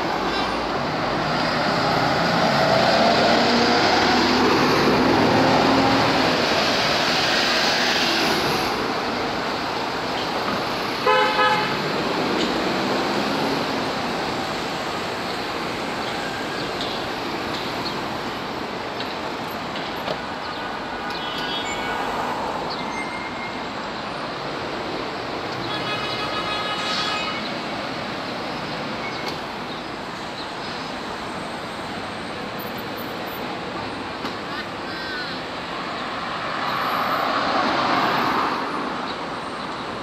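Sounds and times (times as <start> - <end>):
rumble of passing vehicles: 0.0 - 40.0.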